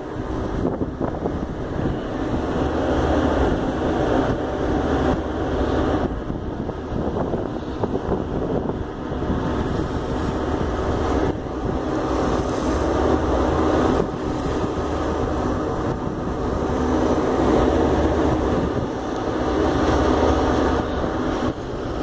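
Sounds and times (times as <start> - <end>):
water rushing along ship hull: 0.0 - 22.0
wind buffeting microphone: 0.0 - 22.0.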